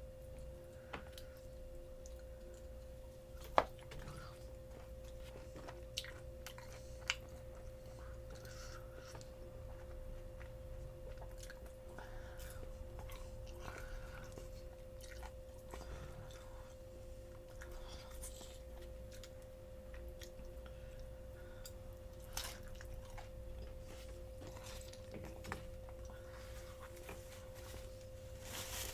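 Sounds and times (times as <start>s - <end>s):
faint electrical hum: 0.0s - 28.9s
chewing and biting fried chicken: 0.4s - 20.8s, 21.4s - 26.2s.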